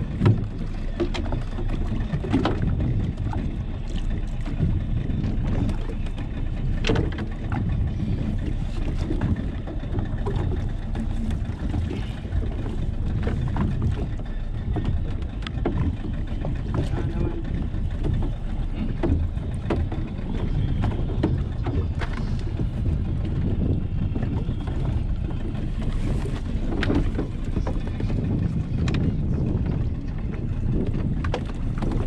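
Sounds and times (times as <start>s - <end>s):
fish pot knocking against boat: 0.0s - 32.0s
water washing against boat hull: 0.0s - 32.0s
wind rumble on microphone: 0.0s - 32.0s.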